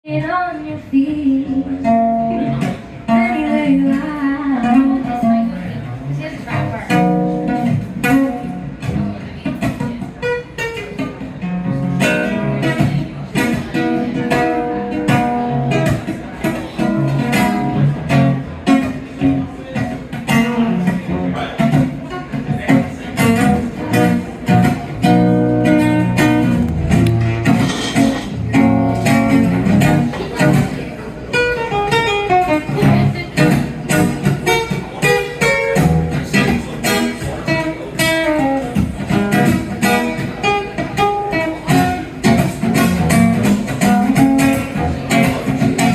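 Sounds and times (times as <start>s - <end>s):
live guitar music: 0.1s - 45.9s.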